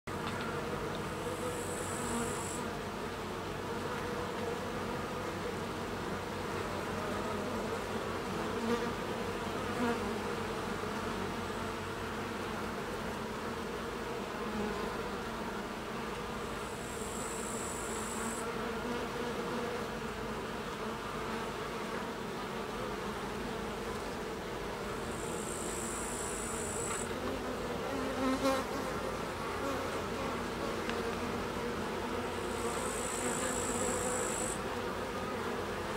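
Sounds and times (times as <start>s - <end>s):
honey bees buzzing: 0.2s - 35.9s.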